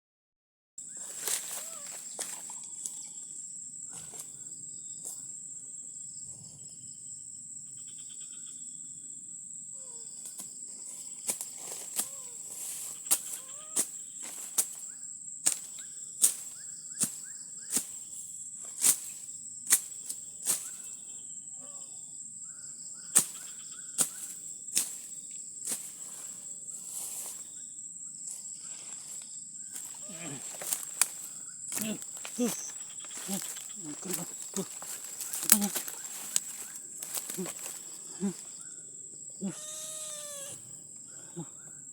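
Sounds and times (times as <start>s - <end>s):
insects droning: 0.8s - 41.9s.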